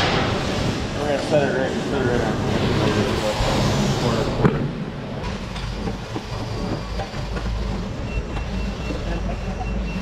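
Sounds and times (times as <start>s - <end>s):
shop machinery drone: 0.0s - 10.0s.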